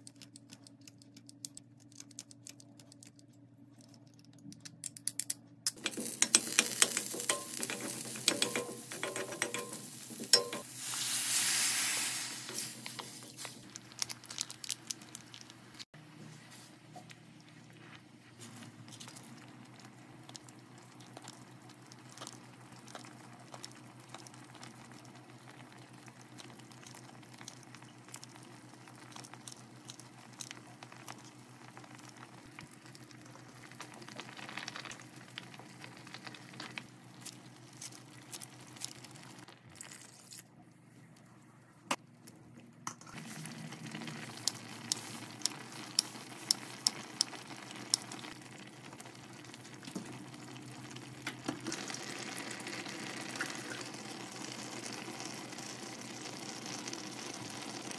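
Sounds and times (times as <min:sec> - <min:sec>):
broth simmering in a pot: 0:05.7 - 0:40.1, 0:43.2 - 0:57.9.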